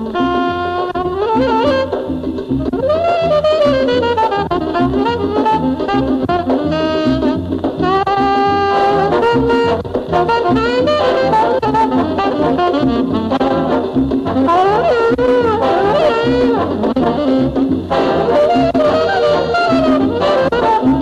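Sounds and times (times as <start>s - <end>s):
mambo dance-band music: 0.0s - 21.0s.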